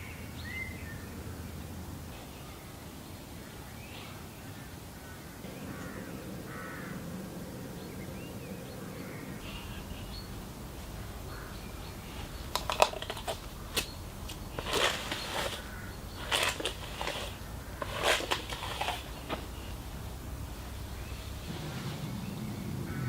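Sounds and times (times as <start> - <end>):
birds calling: 0.0 - 23.0
low background hush: 0.0 - 23.0.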